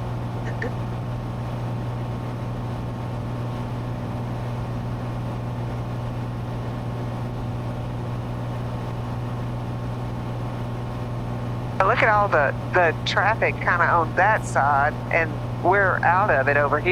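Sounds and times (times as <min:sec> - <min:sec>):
aircraft engine droning: 0:00.0 - 0:16.9.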